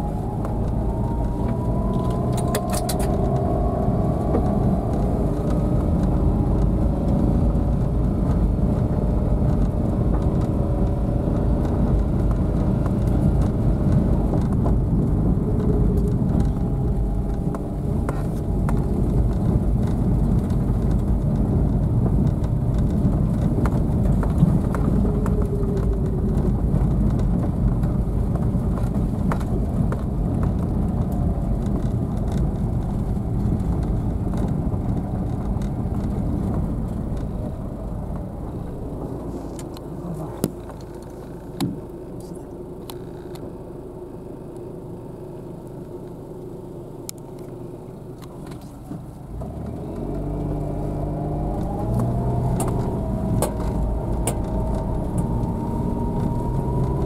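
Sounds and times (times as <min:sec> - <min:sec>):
car engine and tyres rumbling: 0:00.0 - 0:57.0
clicks and knocks from rough track: 0:04.2 - 0:43.5, 0:45.7 - 0:57.0.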